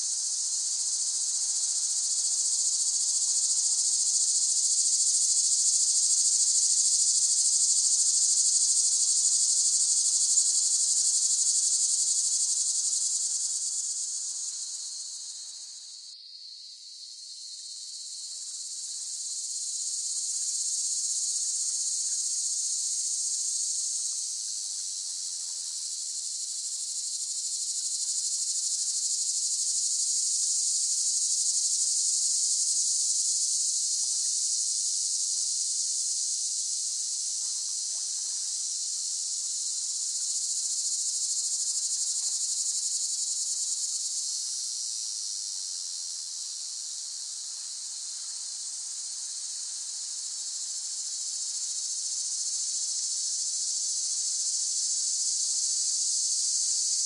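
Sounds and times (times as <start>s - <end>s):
cicadas singing in chorus: 0.0s - 57.0s.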